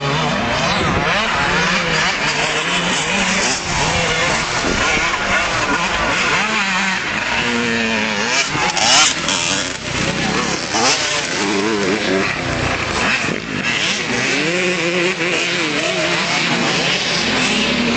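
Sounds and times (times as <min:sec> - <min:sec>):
motocross bike engines revving: 0:00.0 - 0:17.9.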